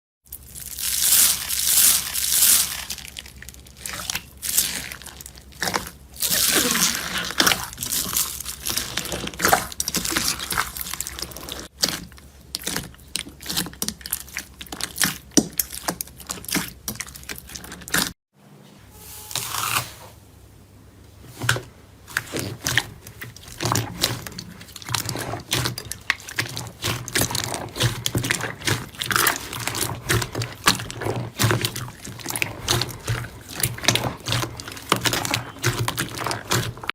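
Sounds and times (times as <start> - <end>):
slime squishing by hand: 0.3 - 18.1, 21.2 - 36.9.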